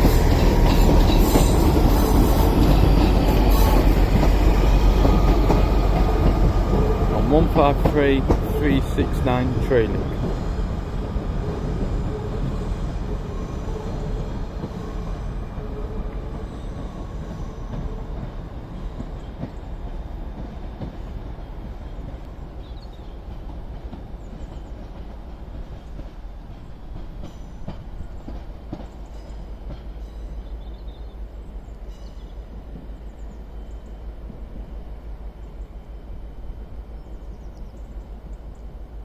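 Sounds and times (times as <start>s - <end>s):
diesel train rumble: 0.0s - 39.0s.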